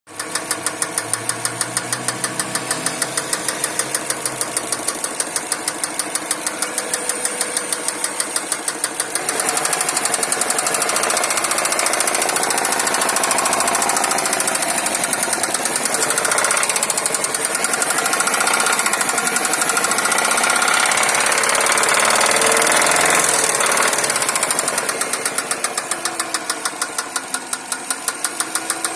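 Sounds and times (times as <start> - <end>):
knocking engine running: 0.1 - 28.9.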